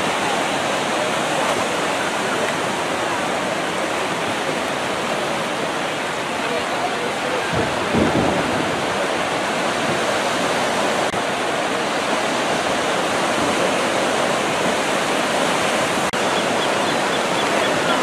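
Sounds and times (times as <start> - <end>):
small waves breaking on beach: 0.0 - 18.0.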